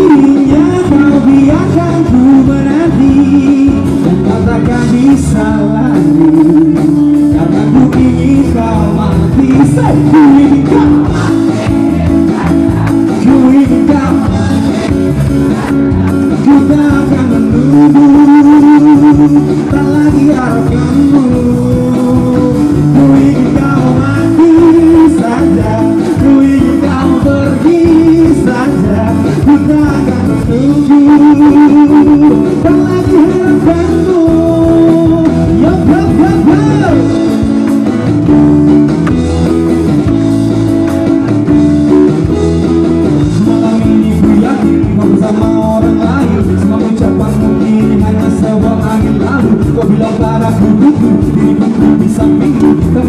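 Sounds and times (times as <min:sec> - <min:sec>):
drums: 0:00.0 - 0:53.0
electric guitars: 0:00.0 - 0:53.0
man singing with vibrato: 0:00.0 - 0:53.0.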